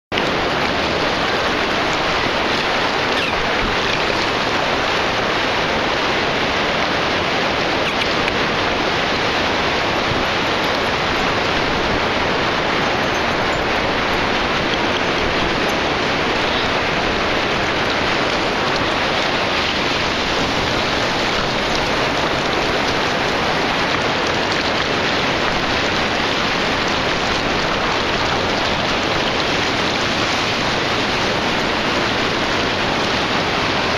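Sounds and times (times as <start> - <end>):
ocean surf breaking: 0.1 - 33.9.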